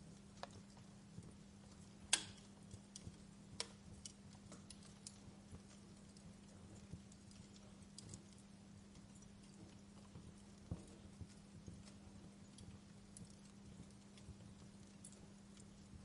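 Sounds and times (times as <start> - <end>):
faint low hum: 0.0 - 16.0
wood fire crackling: 0.0 - 16.0.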